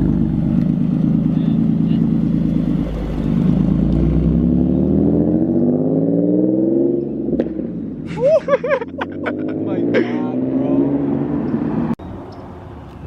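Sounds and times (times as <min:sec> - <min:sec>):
car engine through exhaust: 0:00.0 - 0:12.0.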